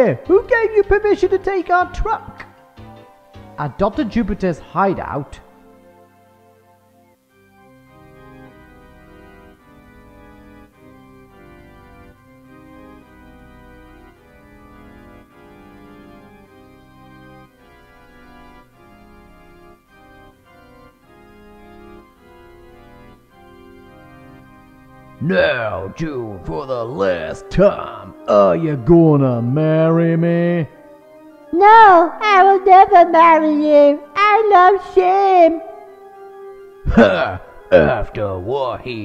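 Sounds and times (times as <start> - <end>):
organ chords: 0.0 - 39.0.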